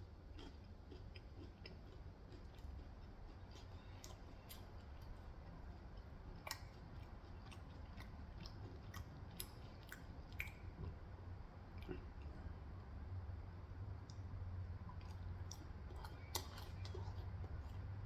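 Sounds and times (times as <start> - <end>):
chewing food: 0.0 - 12.9, 14.0 - 18.0.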